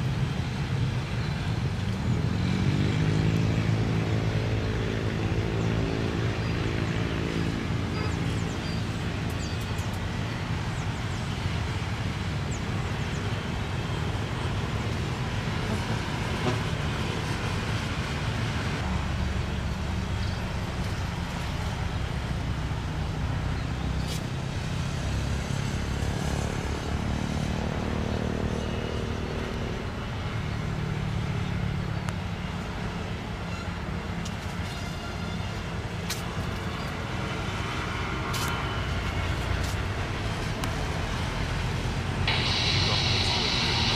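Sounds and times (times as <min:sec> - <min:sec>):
vehicle engine humming: 0:00.0 - 0:34.5, 0:35.7 - 0:43.9
road traffic noise: 0:00.0 - 0:43.9.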